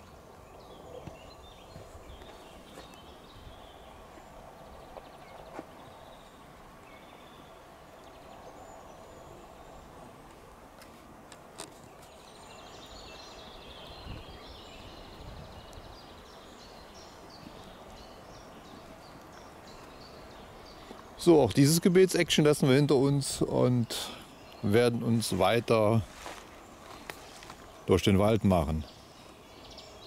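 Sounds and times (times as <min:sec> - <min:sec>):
small birds chirping: 0:00.0 - 0:30.0
steady low hiss: 0:00.0 - 0:30.0.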